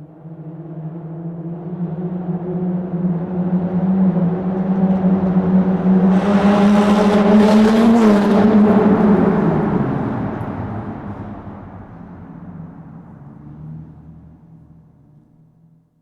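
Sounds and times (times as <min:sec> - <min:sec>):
car engine passing in tunnel: 0:00.0 - 0:16.0.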